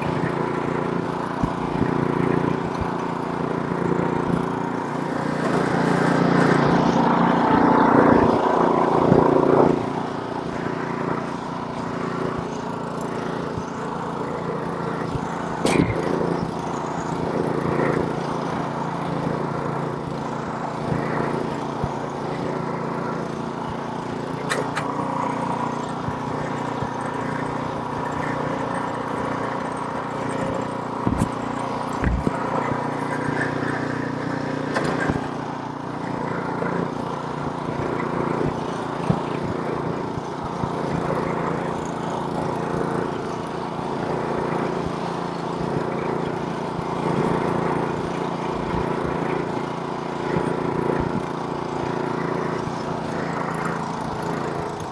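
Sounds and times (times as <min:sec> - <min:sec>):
snowblower engine running: 0:00.0 - 0:54.9.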